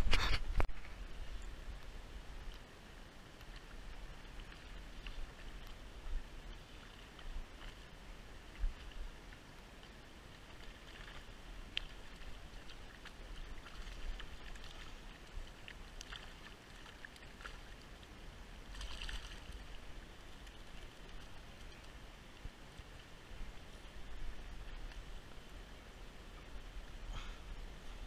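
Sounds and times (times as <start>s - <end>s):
shallow stream running: 0.0s - 28.0s.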